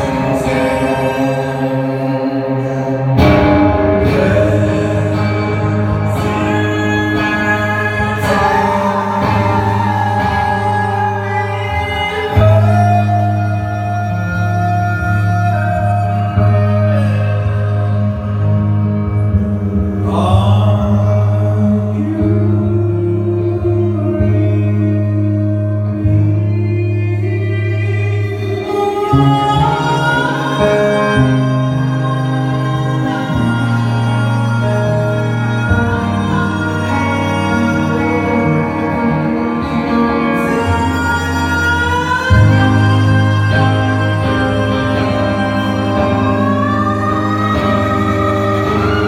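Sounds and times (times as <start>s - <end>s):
electric guitar through amplifier: 0.0s - 49.0s
man singing: 0.0s - 49.0s.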